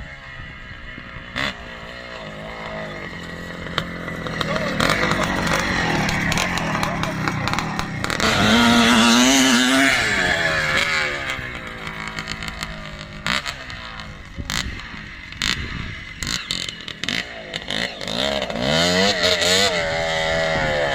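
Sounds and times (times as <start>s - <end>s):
two-stroke engine revving: 0.0s - 20.9s.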